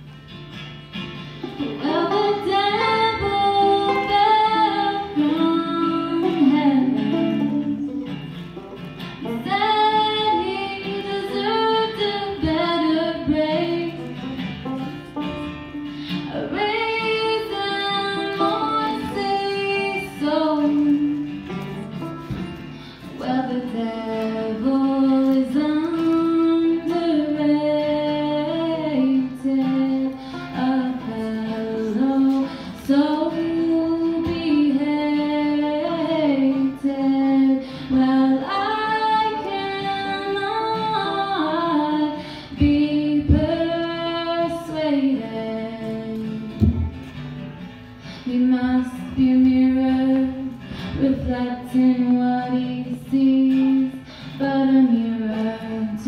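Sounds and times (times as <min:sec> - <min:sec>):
banjo: 0:00.0 - 0:56.0
strummed acoustic guitar: 0:00.0 - 0:56.0
woman singing: 0:01.6 - 0:08.2, 0:09.2 - 0:14.5, 0:15.3 - 0:22.4, 0:23.0 - 0:47.0, 0:48.2 - 0:56.0.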